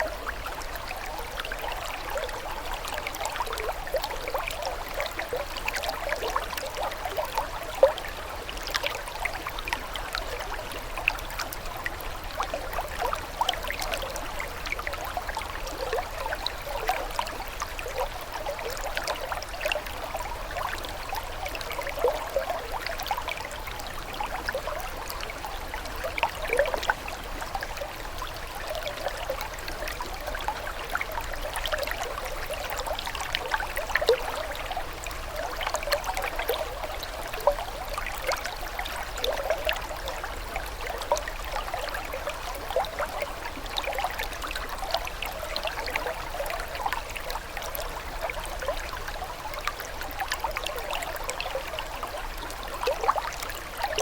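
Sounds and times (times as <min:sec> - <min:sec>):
water trickling and babbling: 0:00.0 - 0:54.0.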